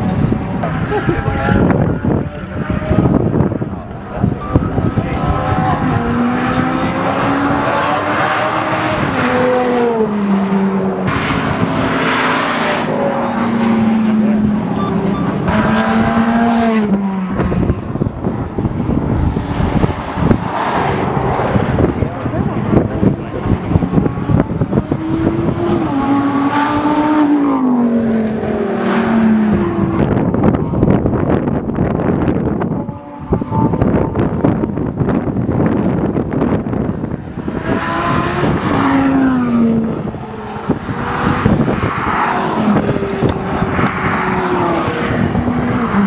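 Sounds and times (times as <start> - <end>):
wind on microphone: 0.0 - 46.0
sports car engine revving: 0.1 - 46.0.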